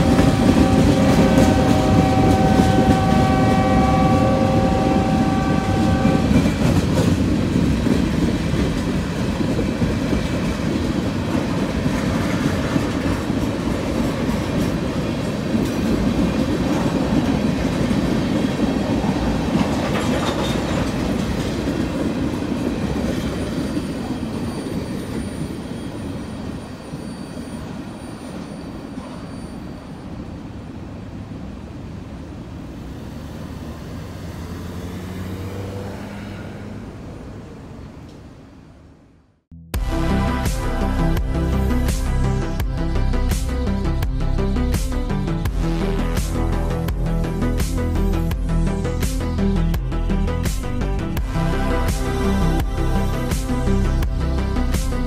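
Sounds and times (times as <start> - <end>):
freight train rolling past: 0.0 - 39.1, 39.8 - 55.0.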